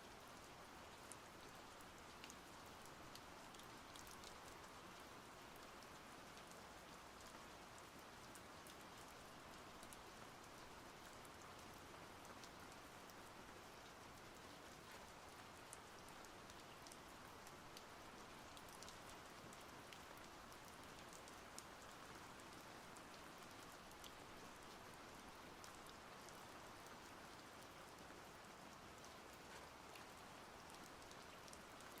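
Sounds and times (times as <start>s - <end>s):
drip-like ticks: 1.0s - 13.2s, 13.8s - 22.2s, 23.0s - 32.0s.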